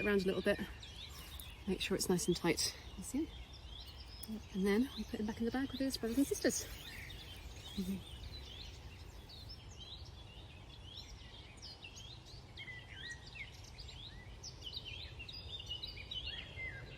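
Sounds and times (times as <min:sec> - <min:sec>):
small songbirds chirping: 0:00.0 - 0:16.9.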